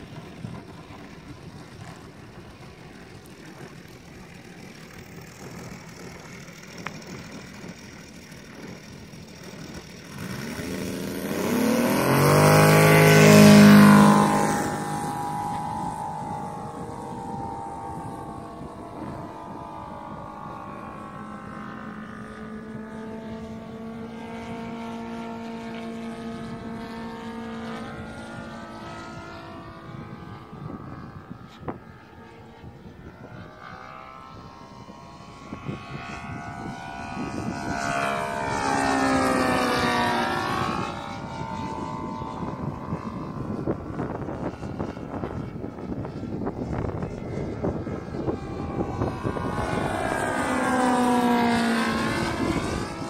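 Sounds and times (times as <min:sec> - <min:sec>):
model plane motor and propeller drone: 0:00.0 - 0:53.0.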